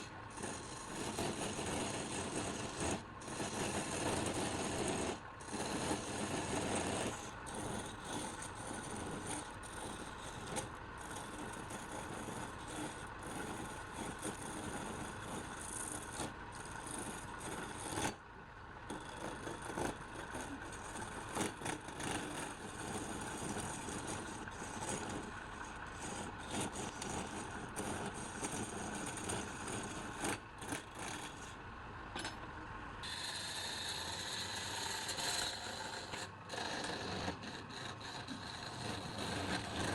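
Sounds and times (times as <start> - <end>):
turning tool cutting wood: 0.0 - 18.2, 18.9 - 31.6, 33.0 - 39.9
wood lathe running: 0.0 - 18.2, 18.9 - 31.6, 33.0 - 39.9.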